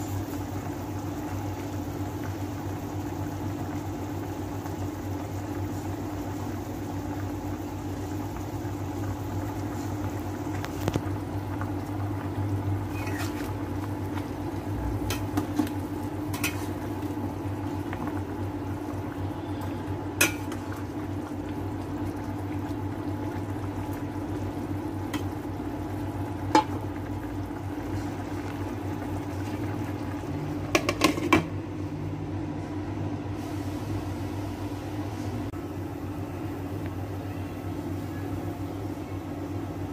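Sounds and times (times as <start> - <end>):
induction cooker hum: 0.0 - 39.9
liquid simmering in a pot: 0.0 - 39.9.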